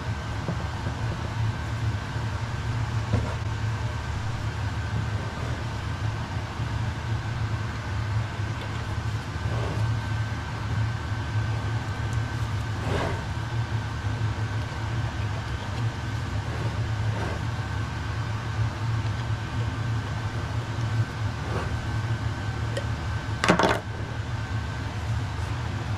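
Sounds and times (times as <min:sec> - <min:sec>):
low mechanical hum: 0:00.0 - 0:25.9.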